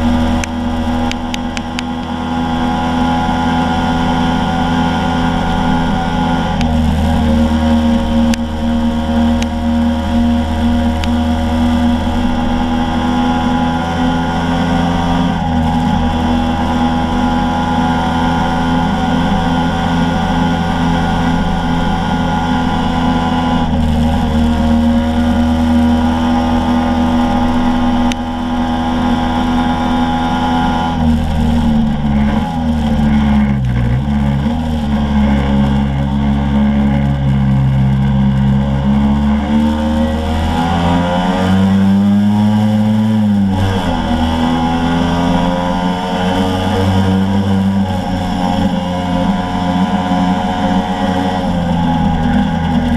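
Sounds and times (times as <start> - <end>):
scooter engine running: 0.0 - 52.9.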